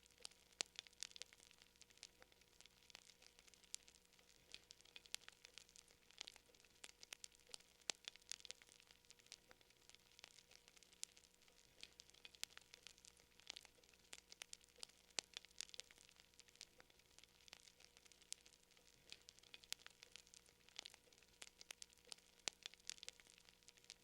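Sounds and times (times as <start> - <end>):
fire crackling: 0.0 - 24.0.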